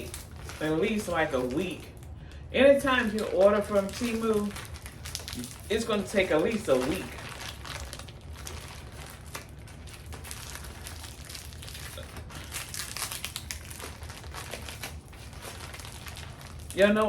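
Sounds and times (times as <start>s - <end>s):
plastic package crinkling: 0.0s - 17.0s.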